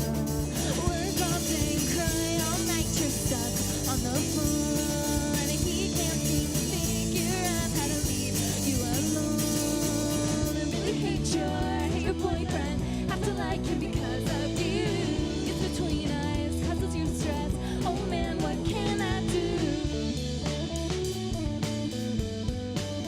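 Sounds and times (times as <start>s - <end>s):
person singing lead vocal: 0.0s - 20.4s
rock band playing live: 0.0s - 23.0s.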